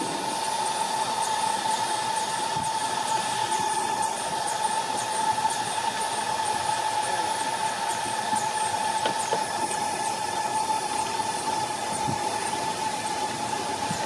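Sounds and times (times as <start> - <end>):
steady high tone: 0.0 - 14.0
steam hissing: 0.0 - 14.0.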